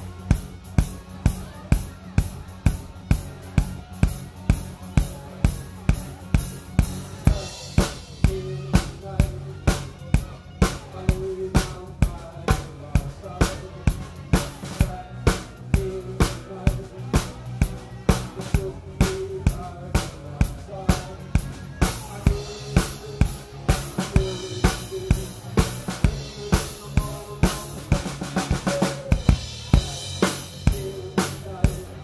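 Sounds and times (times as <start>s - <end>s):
bass and guitar notes: 0.0s - 32.0s
bass drum and snare beat: 0.0s - 32.0s.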